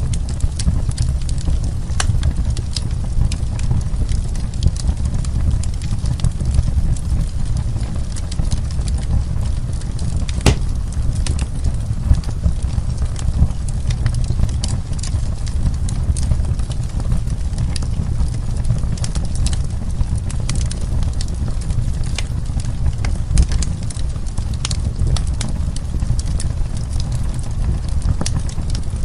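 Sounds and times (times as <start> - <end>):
low rumble of flames: 0.0 - 29.0
wood crackling and popping: 0.0 - 29.0.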